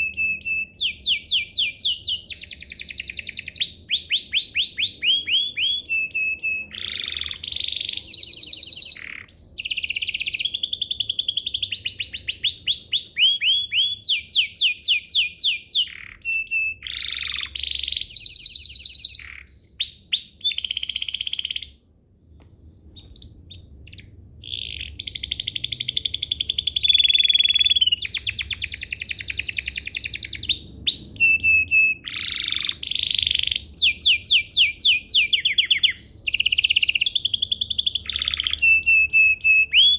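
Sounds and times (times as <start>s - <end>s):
canary singing trills: 0.0s - 21.8s, 22.9s - 39.9s.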